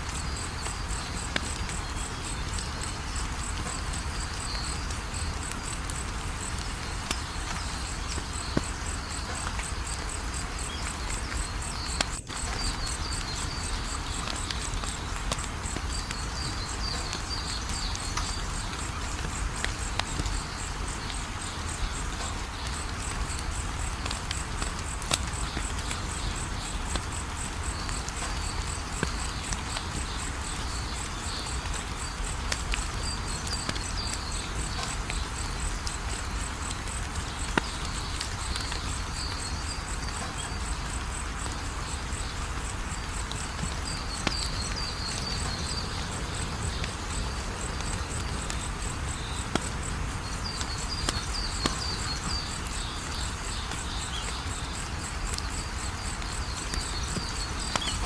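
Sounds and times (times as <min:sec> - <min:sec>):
insects chirping: 0:00.0 - 0:58.0
wood fire crackling and popping: 0:00.0 - 0:58.0.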